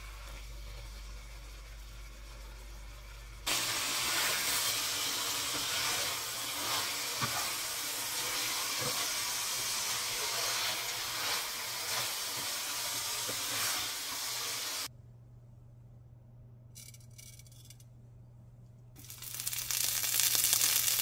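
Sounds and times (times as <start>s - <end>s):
chicken sizzling in hot oil: 0.0s - 14.9s, 19.0s - 21.0s.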